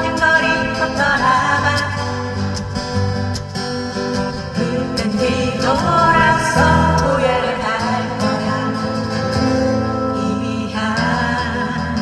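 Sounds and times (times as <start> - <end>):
trot song with bass and guitar: 0.0 - 12.0.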